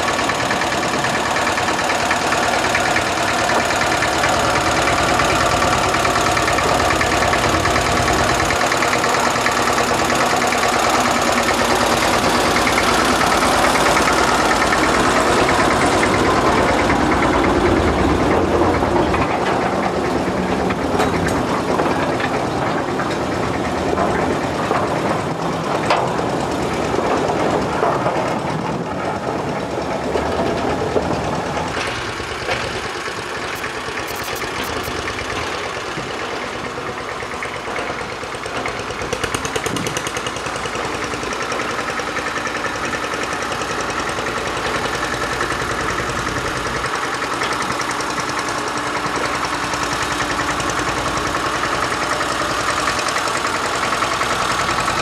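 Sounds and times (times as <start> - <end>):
diesel locomotive engine whine: 0.0 - 55.0.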